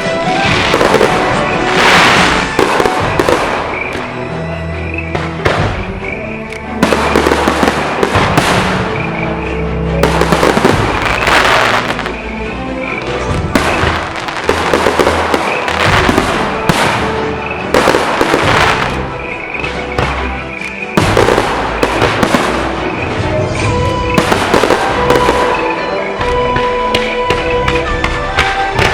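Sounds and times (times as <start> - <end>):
fireworks crackling and popping: 0.0 - 12.3, 13.0 - 28.9
music playing: 0.0 - 28.9.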